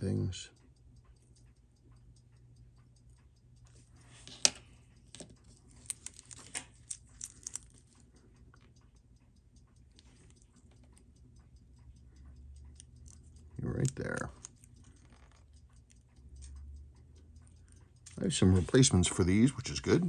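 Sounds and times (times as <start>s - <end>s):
faint even watch ticking: 0.0s - 20.0s.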